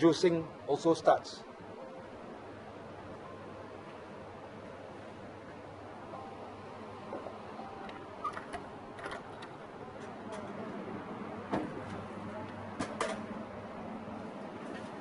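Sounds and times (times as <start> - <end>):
vending machine humming: 1.4 - 15.0.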